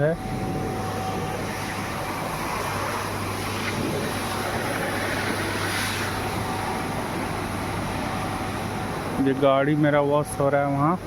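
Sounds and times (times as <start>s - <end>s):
vehicle and machinery hum: 0.0s - 11.0s.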